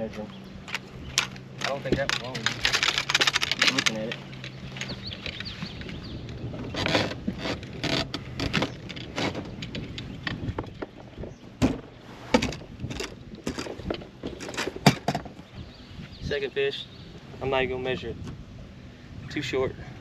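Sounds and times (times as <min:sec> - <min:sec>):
gear clattering on boat: 0:00.0 - 0:16.4.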